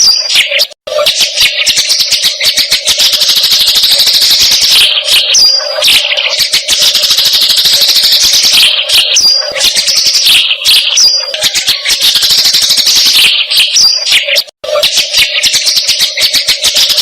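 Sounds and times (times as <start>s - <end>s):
rapid chattering trill: 0.0s - 17.0s.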